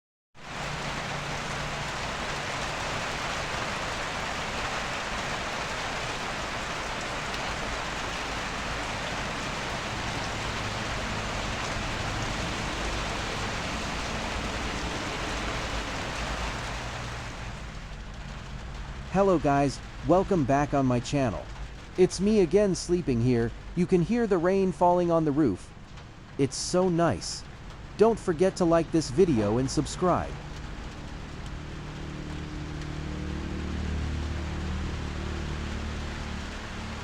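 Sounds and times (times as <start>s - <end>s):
heavy rain on a bamboo roof: 0.4s - 37.0s.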